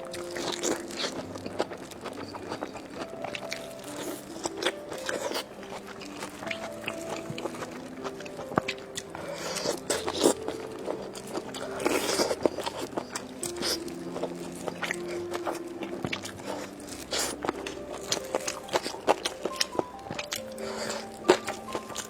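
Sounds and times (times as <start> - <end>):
crunchy bites and chewing: 0.0 - 22.0.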